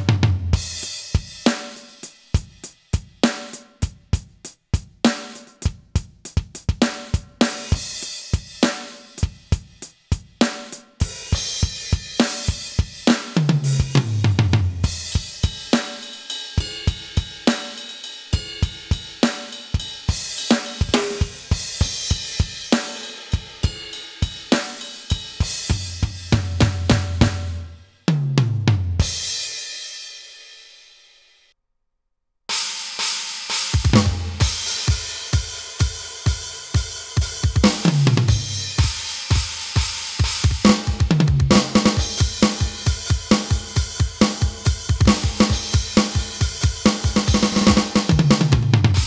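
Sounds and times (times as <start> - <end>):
electronic drum kit rock beat: 0.0 - 29.7, 32.5 - 49.0.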